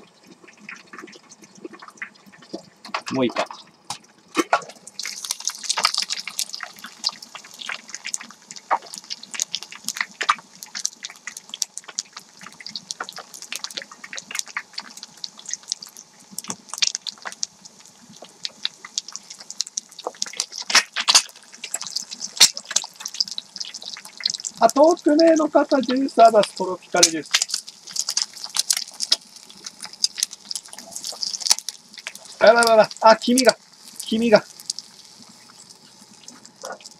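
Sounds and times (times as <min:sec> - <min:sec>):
egg sizzling in hot oil: 0:00.0 - 0:36.9.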